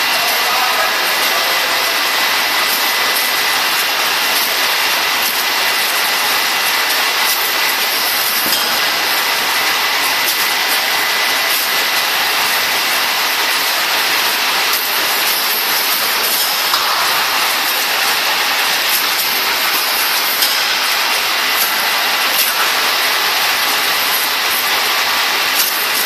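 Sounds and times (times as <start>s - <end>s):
packing machine running: 0.0s - 26.0s.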